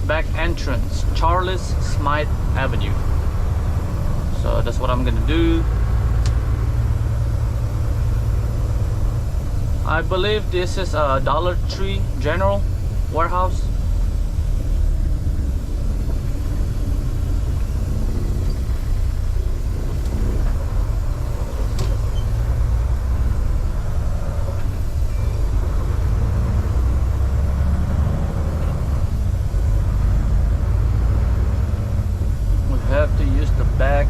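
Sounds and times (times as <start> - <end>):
road noise: 0.0 - 34.0
truck engine rumble: 0.0 - 34.0.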